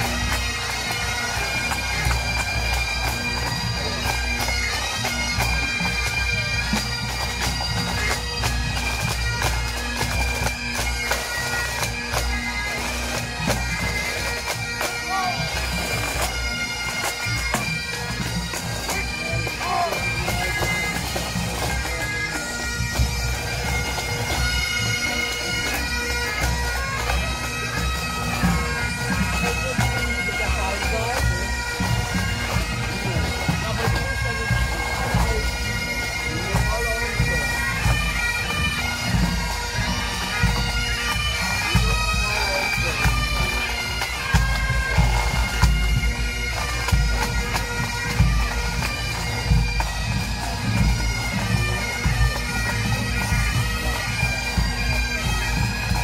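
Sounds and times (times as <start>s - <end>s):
bagpipes playing: 0.0s - 56.0s.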